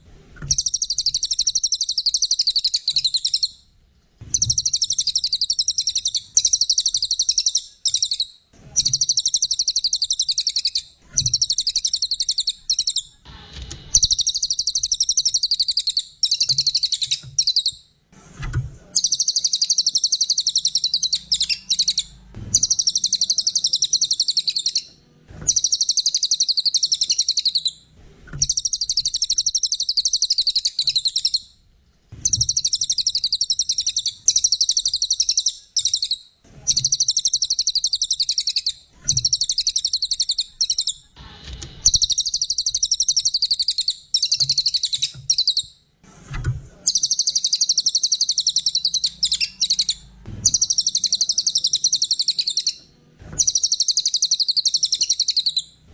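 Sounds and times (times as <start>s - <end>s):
bird singing chattering trills: 0.5s - 3.6s, 4.3s - 13.2s, 13.9s - 17.8s, 19.0s - 24.9s, 25.5s - 27.8s, 28.4s - 31.5s, 32.2s - 41.1s, 41.8s - 45.7s, 46.9s - 52.8s, 53.4s - 55.8s.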